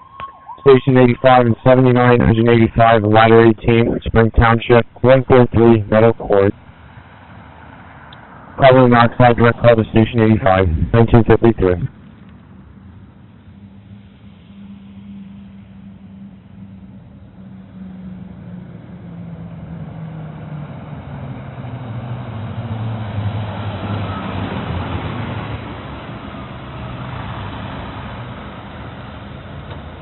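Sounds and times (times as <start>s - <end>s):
fire truck engine running: 0.0s - 30.0s.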